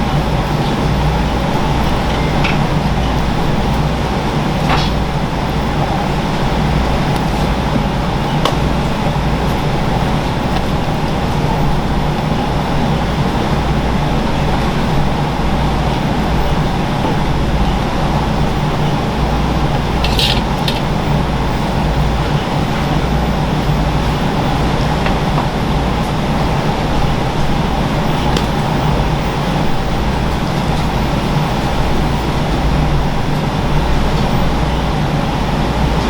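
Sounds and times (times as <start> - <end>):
loud mechanical hum: 0.0 - 36.0.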